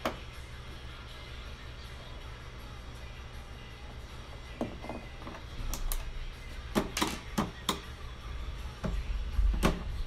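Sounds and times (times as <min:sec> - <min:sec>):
steady low hum: 0:00.0 - 0:07.0, 0:07.6 - 0:10.0.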